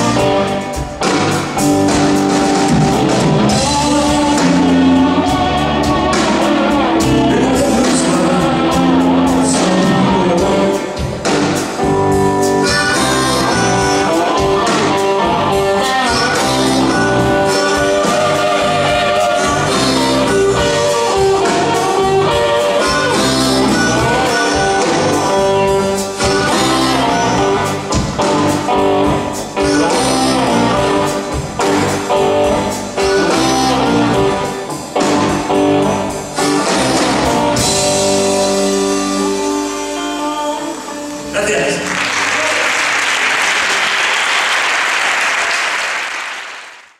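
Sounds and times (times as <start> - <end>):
held lead guitar melody: 0.0 - 42.3
rock band playing slow blues: 0.0 - 43.3.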